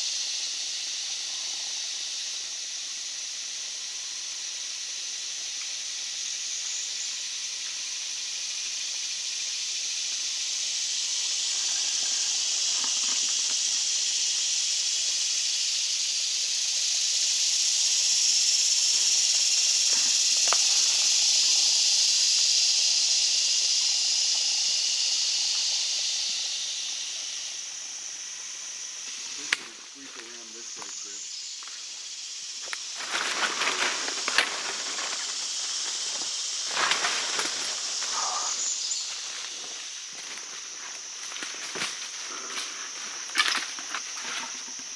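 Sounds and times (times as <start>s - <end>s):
cicadas buzzing: 0.0s - 44.9s.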